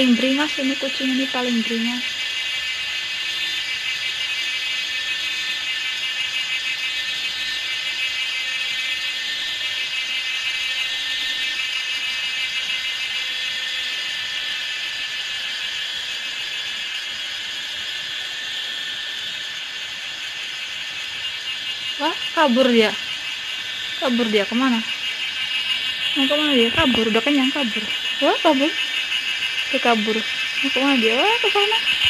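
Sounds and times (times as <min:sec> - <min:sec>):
high-pitched buzzing drone: 0:00.0 - 0:32.0.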